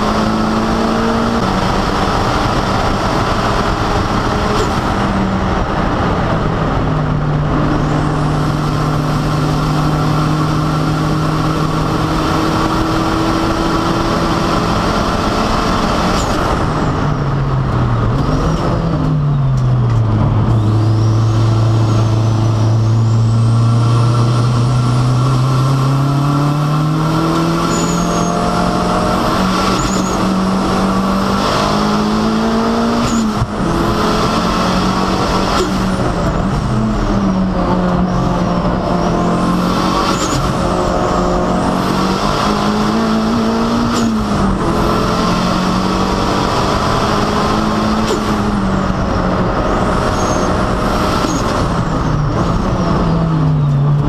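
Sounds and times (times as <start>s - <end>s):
turbocharged car engine revving: 0.0s - 54.0s.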